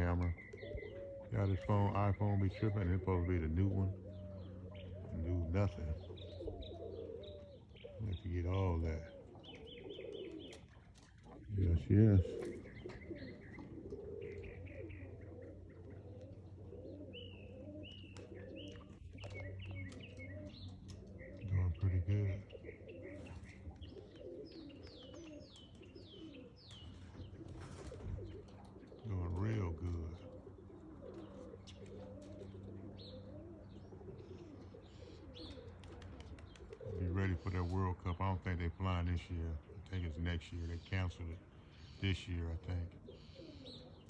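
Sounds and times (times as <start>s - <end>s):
pigeons cooing: 0.0s - 44.0s.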